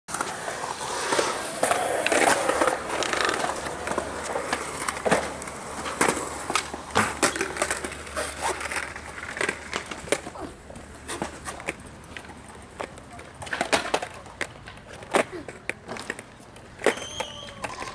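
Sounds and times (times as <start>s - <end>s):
skateboard clacking on ground: 0.1s - 17.9s
skateboard wheels rolling on concrete: 0.1s - 17.9s.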